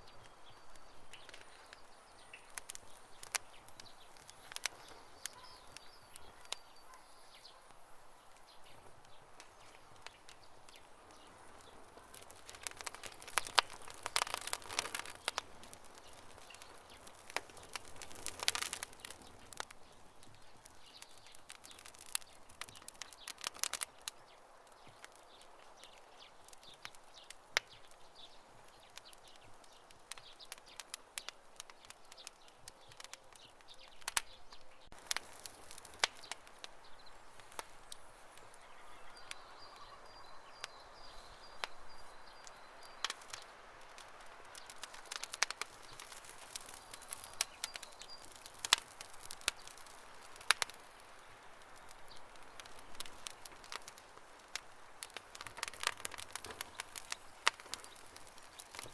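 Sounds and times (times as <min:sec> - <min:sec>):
campfire crackling: 0:00.0 - 0:58.9
soft hiss of fire: 0:00.0 - 0:58.9.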